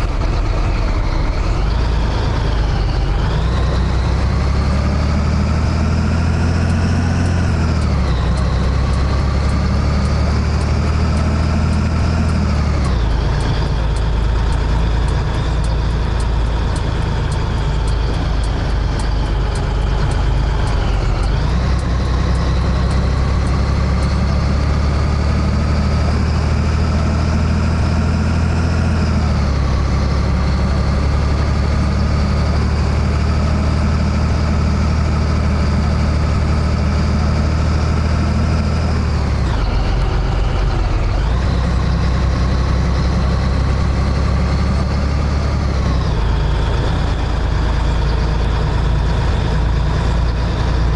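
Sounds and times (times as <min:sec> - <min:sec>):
truck diesel engine shifting gears: 0:00.0 - 0:50.9.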